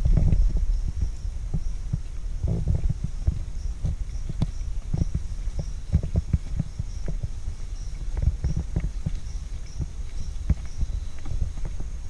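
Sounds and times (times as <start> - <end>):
footsteps on wooden boardwalk: 0.0 - 12.0.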